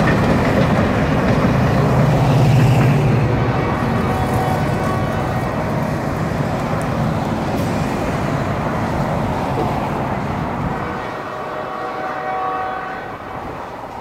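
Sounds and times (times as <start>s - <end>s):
bus and cars going by: 0.0s - 14.0s
freight train rumble: 0.0s - 14.0s.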